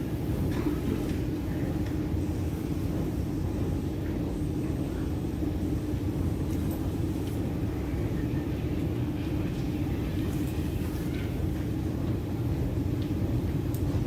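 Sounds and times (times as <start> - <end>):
train rumbling at speed: 0.0 - 14.0.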